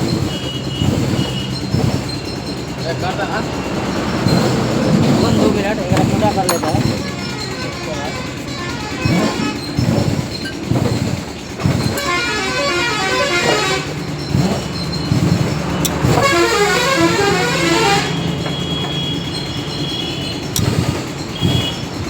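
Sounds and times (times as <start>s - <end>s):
traffic engine drone: 0.0s - 22.0s
vehicle horns blasting: 0.1s - 22.0s.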